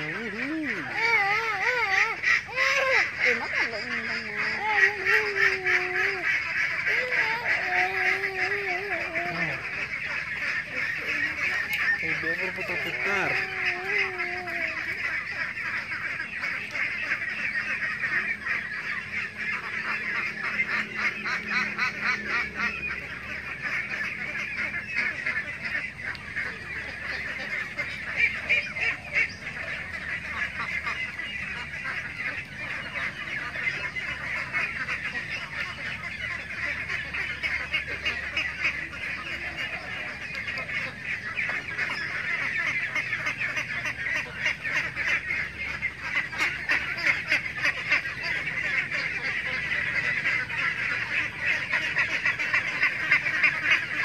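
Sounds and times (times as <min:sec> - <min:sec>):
flock of ducks calling: 0:00.0 - 0:54.0.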